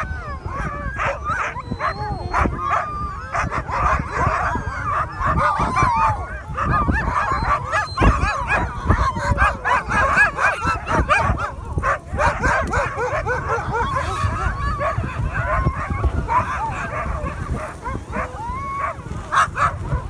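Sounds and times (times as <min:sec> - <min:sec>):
dogs yelping and howling: 0:00.0 - 0:20.0.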